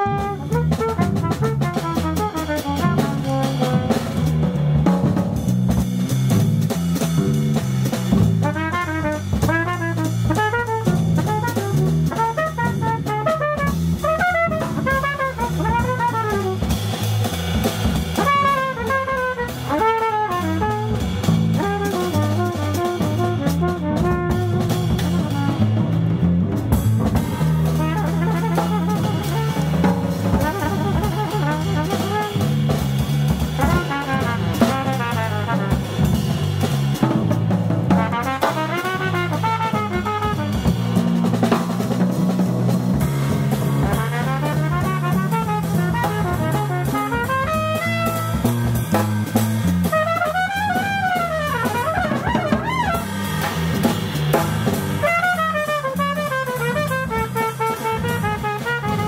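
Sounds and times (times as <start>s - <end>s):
cornet playing quick runs: 0.0s - 59.0s
drum kit: 0.0s - 59.0s
electric bass: 0.0s - 59.0s.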